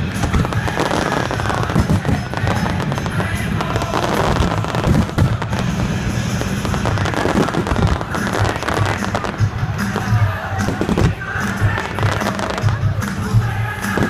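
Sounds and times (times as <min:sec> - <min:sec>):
fireworks cracks and bangs: 0:00.0 - 0:14.0
music playing: 0:00.0 - 0:14.0.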